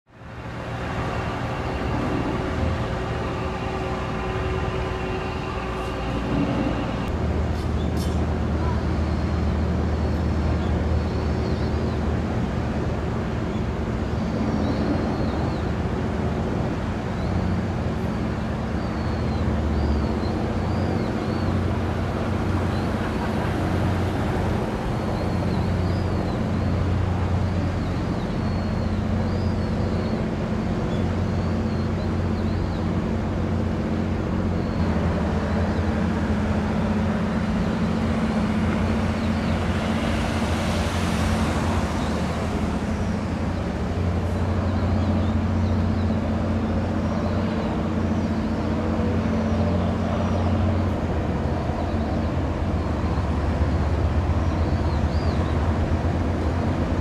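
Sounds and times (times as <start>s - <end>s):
low engine drone: 0.1s - 57.0s
traffic rushing: 0.1s - 57.0s.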